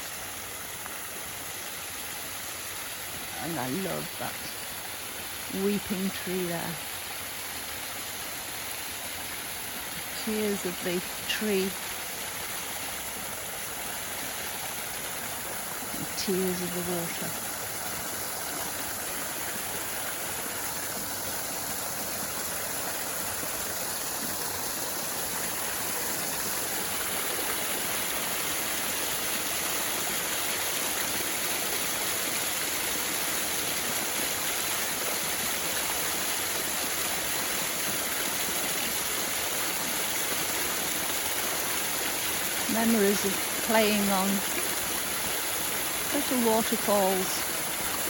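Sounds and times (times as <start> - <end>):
water tumbling down waterfall: 0.0 - 48.0.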